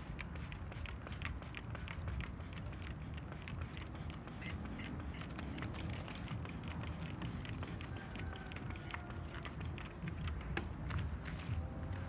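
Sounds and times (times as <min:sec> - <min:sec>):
spray bottle squirting: 0:00.0 - 0:10.6.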